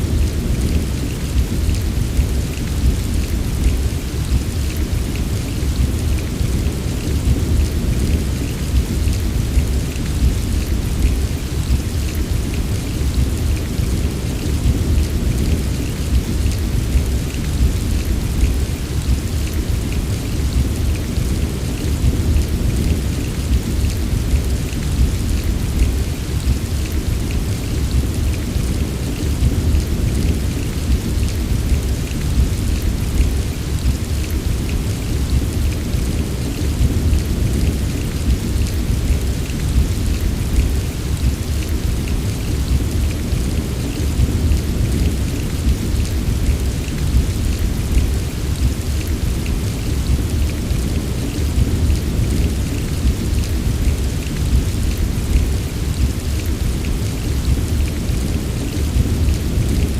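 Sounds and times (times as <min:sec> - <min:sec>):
constant low rumble: 0:00.0 - 0:59.9
rain pattering: 0:00.0 - 0:59.9.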